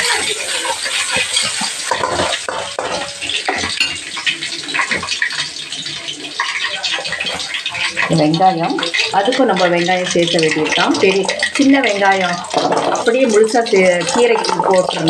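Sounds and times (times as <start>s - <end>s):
hot oil sizzling and popping: 0.0s - 15.0s.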